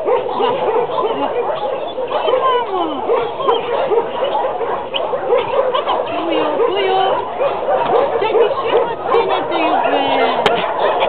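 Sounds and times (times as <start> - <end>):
dogs barking and yelping: 0.0 - 11.0.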